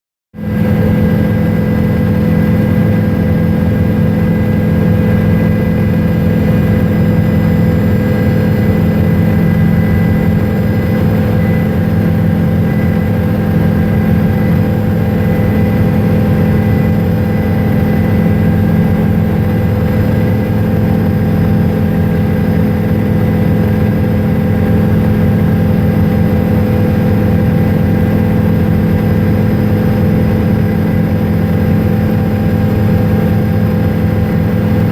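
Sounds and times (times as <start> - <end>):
helicopter engine and rotor drone: 0.4 - 34.9.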